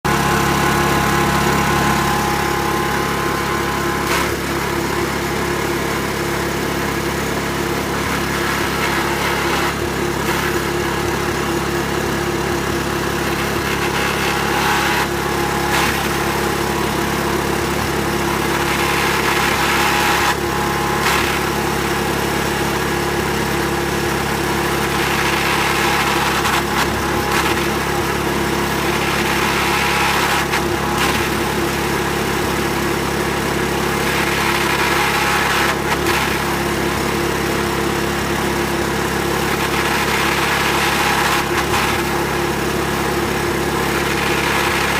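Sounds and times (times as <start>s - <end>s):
pressure washer running: 0.0s - 44.9s.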